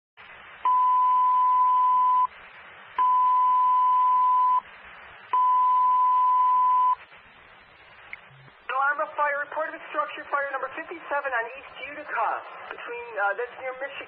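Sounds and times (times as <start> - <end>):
radio hiss: 0.2 - 14.0.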